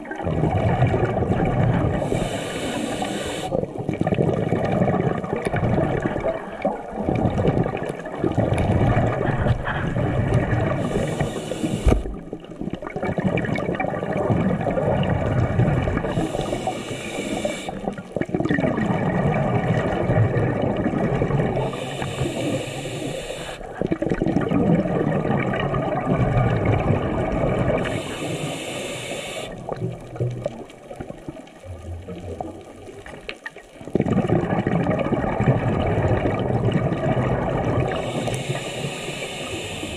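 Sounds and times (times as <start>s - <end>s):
underwater rushing and bubbling: 0.0s - 39.9s.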